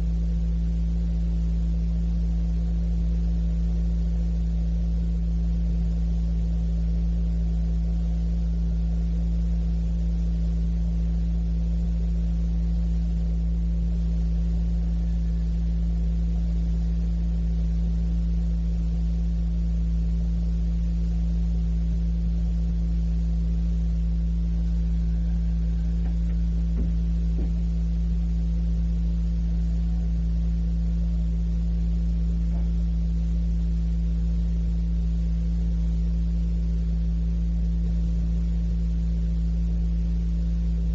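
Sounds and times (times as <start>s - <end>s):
steady electrical hum: 0.0s - 40.9s.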